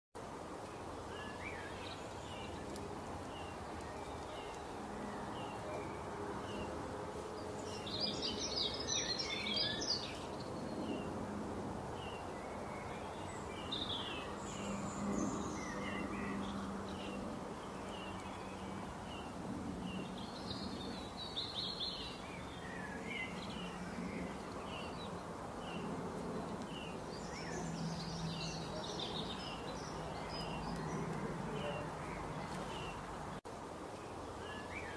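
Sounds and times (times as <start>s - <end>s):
rushing outdoor ambience: 0.2s - 34.9s
songbirds chirping: 0.2s - 34.9s.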